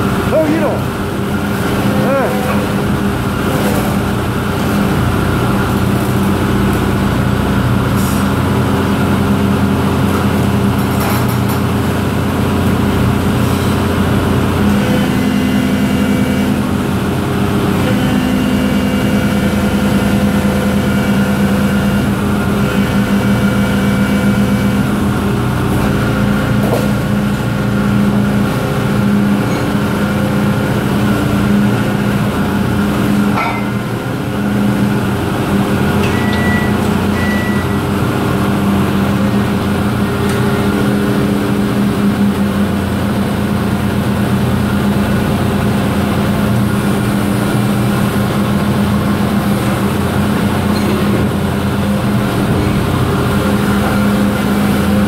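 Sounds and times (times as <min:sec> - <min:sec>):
excavator engine and hydraulics: 0:00.0 - 0:55.0.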